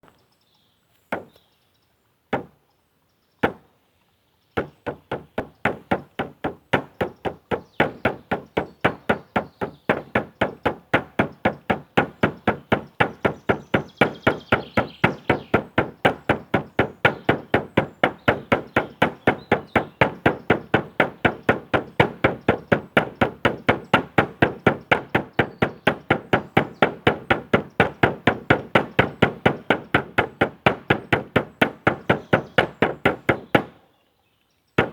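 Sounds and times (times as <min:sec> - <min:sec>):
drum beating steady rhythm: 0:04.6 - 0:33.7.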